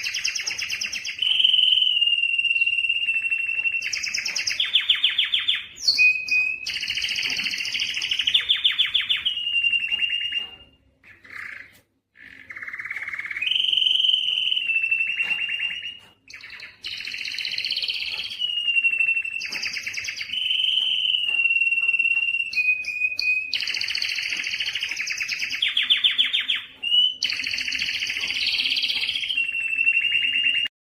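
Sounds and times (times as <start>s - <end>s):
canary singing trills and whistles: 0.0s - 30.7s.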